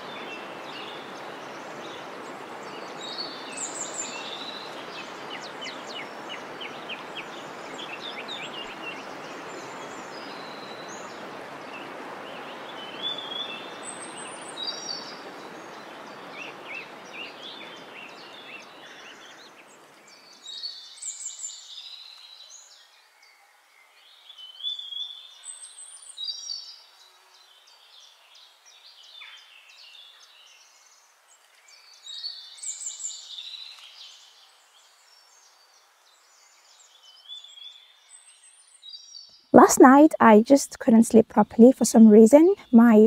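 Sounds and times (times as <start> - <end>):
songbirds singing: 0.0 - 43.0.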